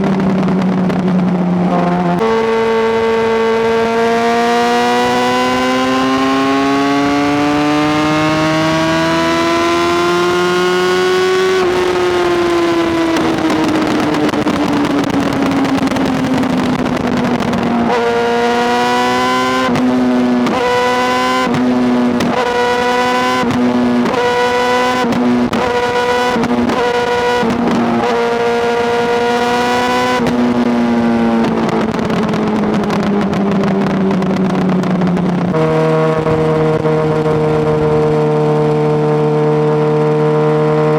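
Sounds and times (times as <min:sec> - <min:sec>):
motorcycle engine under load: 0:00.0 - 0:40.9.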